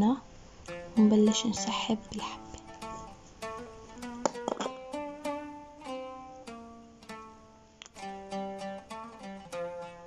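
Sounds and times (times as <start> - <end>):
slow plucked-string music: 0.0 - 10.0.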